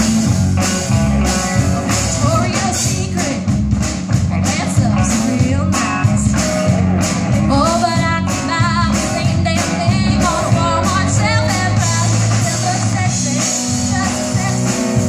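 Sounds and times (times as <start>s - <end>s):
bass guitar: 0.0s - 15.0s
drums: 0.0s - 15.0s
electric guitar: 0.0s - 15.0s
woman singing: 1.2s - 3.5s, 4.3s - 6.5s, 7.3s - 15.0s.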